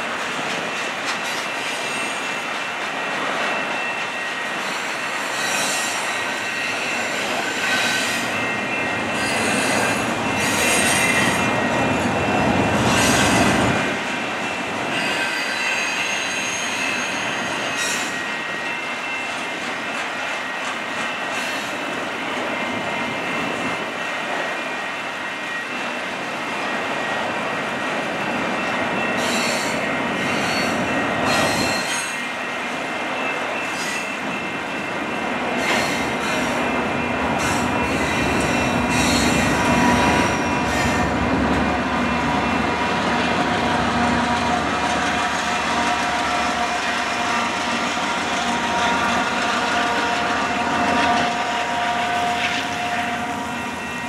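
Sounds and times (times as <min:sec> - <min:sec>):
diesel locomotive engine drone: 0:00.0 - 0:54.0
train clanks: 0:00.0 - 0:54.0
train wheels squealing: 0:00.0 - 0:54.0.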